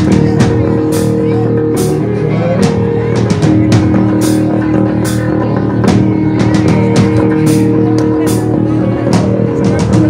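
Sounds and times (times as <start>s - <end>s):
drum kit: 0.0s - 10.0s
guitar and bass chords: 0.0s - 10.0s.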